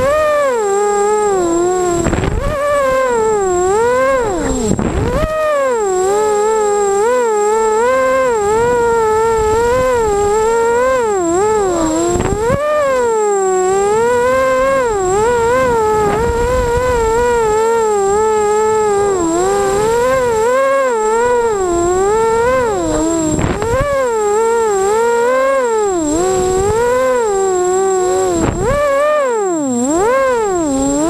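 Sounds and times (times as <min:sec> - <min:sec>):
quadcopter motors buzzing whine: 0:00.0 - 0:31.0.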